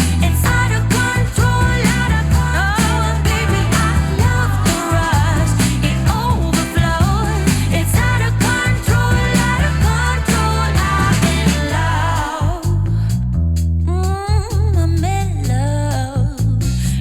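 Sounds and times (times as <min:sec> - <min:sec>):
pop song with vocals: 0:00.0 - 0:17.0.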